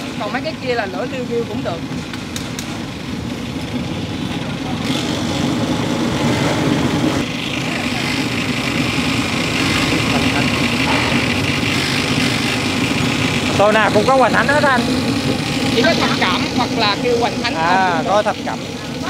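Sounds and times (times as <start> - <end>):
pressure burner roaring: 0.0 - 19.0.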